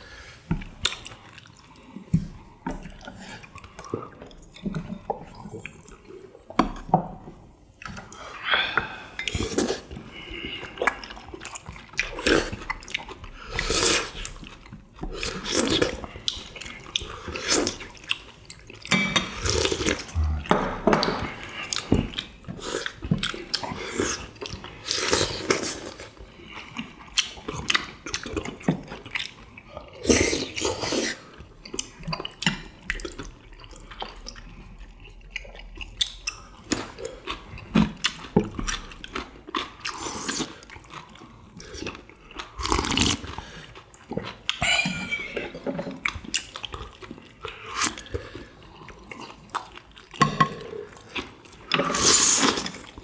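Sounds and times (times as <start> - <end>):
people slurping and chewing: 0.0 - 53.0.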